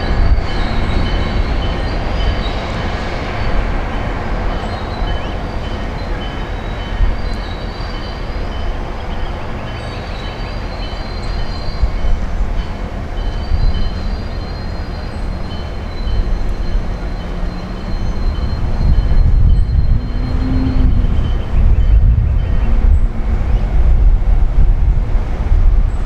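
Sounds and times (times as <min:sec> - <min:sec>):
high-pitched wheel squeal: 0:00.0 - 0:08.8, 0:10.2 - 0:23.0
train rumbling on rails: 0:00.0 - 0:26.0.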